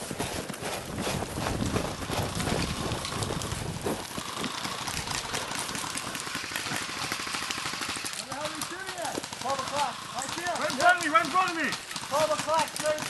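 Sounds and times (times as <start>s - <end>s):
footsteps on gravel: 0.0s - 6.0s, 8.2s - 13.0s
gear and clothing rattling: 0.0s - 13.0s
dense fast clicking: 0.4s - 13.0s.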